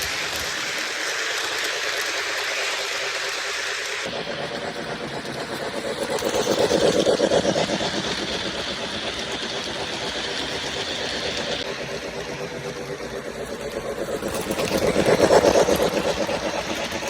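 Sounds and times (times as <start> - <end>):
model train motor hum: 0.0 - 17.0
rapid ticking from rails: 0.0 - 17.0.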